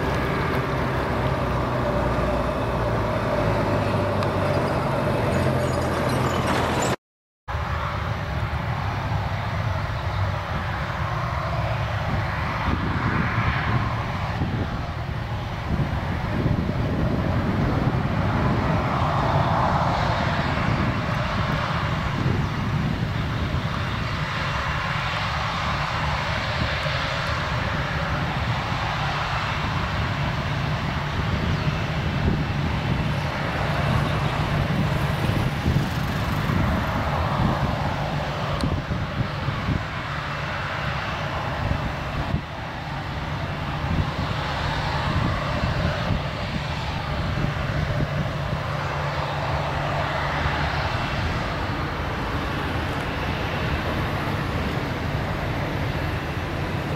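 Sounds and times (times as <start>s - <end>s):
jet engines running: 0.0s - 6.2s, 7.5s - 56.9s.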